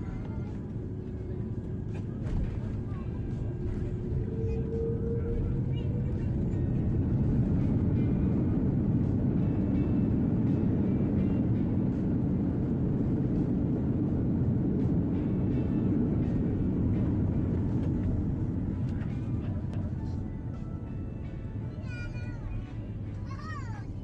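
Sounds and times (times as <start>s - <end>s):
airliner cabin roar: 0.0s - 24.0s.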